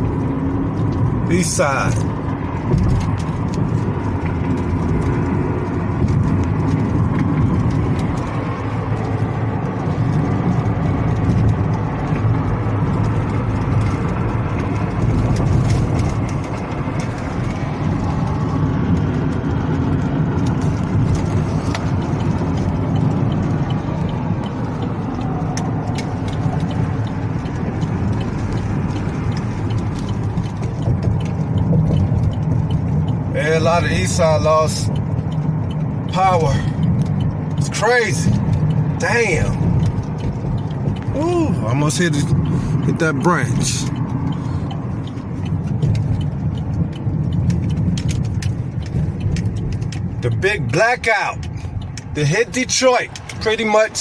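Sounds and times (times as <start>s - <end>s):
car engine and tyre noise: 0.0s - 54.0s
low road rumble: 0.0s - 54.0s.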